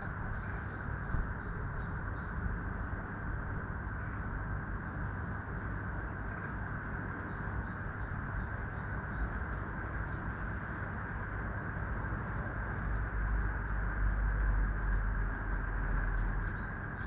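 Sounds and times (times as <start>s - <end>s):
faint songbird chirps: 0.0s - 2.9s, 4.0s - 17.0s.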